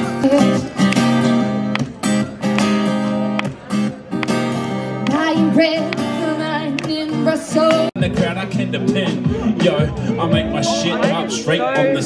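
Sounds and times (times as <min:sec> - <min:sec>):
acoustic guitar strumming: 0:00.0 - 0:11.2.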